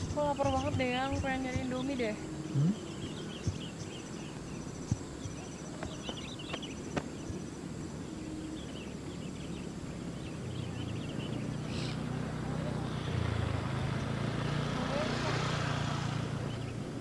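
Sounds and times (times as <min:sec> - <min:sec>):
insects trilling: 0:00.0 - 0:17.0
small birds chirping: 0:00.0 - 0:17.0.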